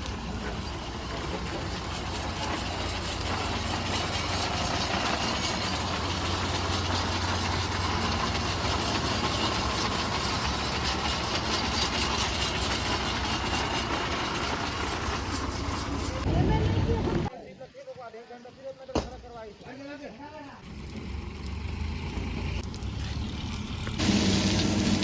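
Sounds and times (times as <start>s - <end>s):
diesel engine running: 0.0s - 17.3s, 20.6s - 25.0s.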